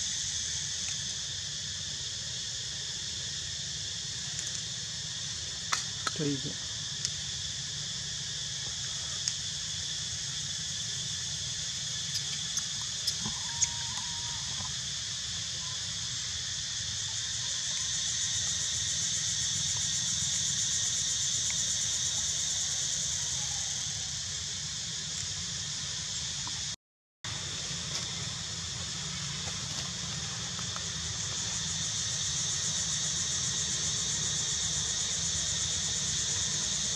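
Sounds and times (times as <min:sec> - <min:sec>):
insect chorus drone: 0:00.0 - 0:36.9.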